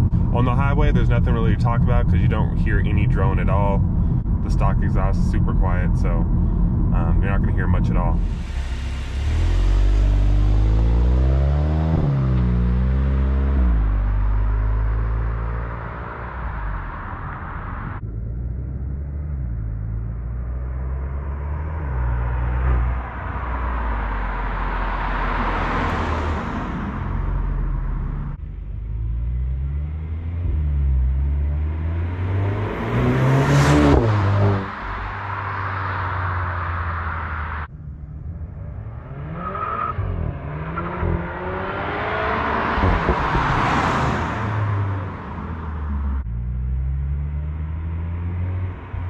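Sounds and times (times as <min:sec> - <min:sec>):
car exhaust accelerating: 0:00.0 - 0:49.0.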